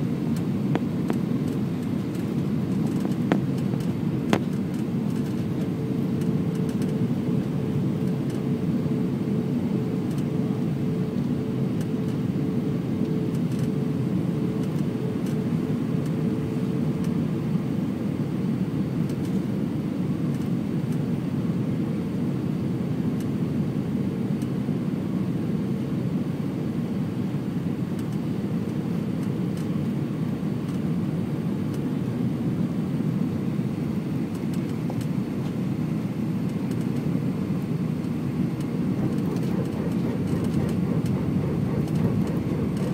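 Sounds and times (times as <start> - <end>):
airliner engines roaring: 0.0 - 42.9.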